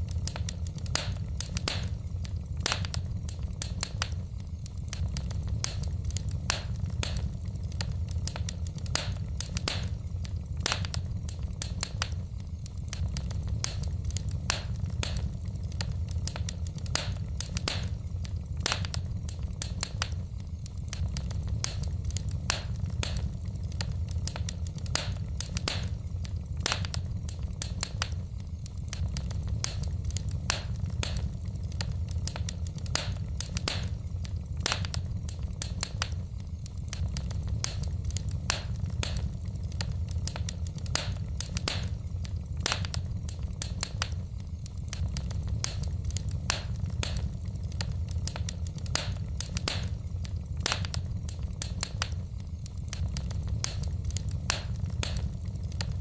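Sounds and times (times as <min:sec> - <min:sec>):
logs crackling and popping: 0:00.0 - 0:56.0
low steady fire rumble: 0:00.0 - 0:56.0.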